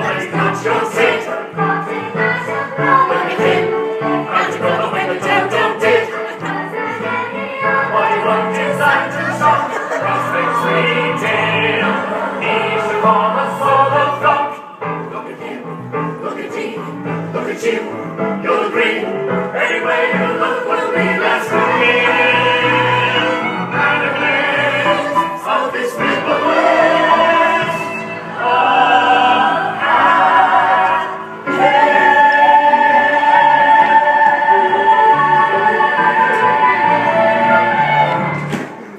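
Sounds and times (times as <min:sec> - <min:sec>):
instrumental accompaniment: 0:00.0 - 0:38.9
voices singing in chorus: 0:00.0 - 0:38.9.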